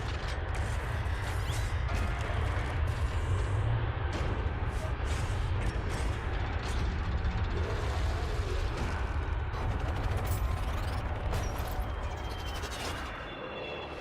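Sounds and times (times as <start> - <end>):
jet roar and rumble: 0.0 - 14.0.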